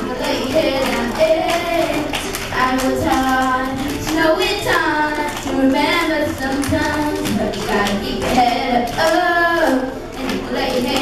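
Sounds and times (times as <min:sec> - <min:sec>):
children singing into microphones: 0:00.0 - 0:11.0.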